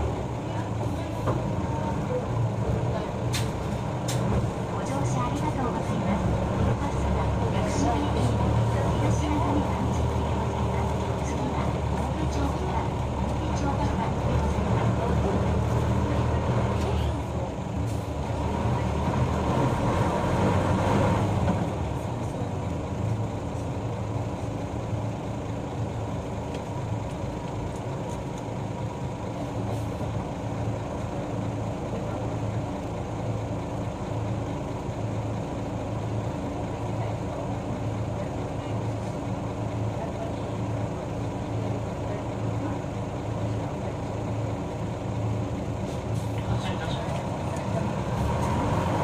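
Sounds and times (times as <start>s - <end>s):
bus diesel engine idling: 0.0s - 49.0s.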